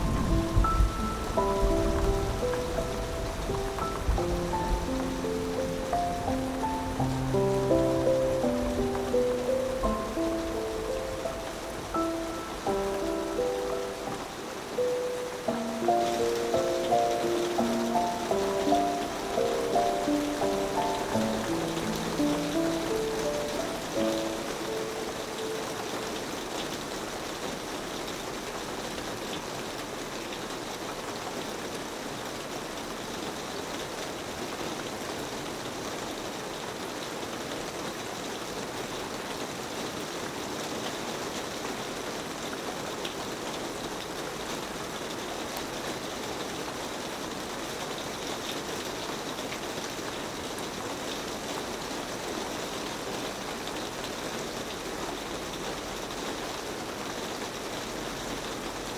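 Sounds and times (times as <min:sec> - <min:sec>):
rain on a metal roof: 0:00.0 - 0:58.9.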